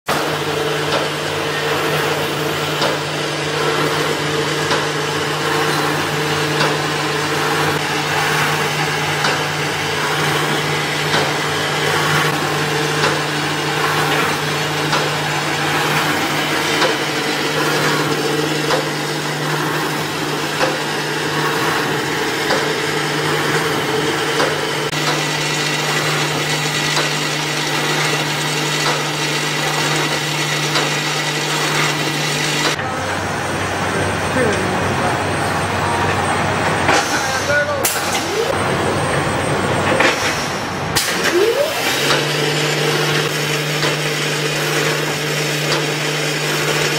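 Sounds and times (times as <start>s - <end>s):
welding machine clattering: 0.2s - 32.8s, 39.9s - 46.9s.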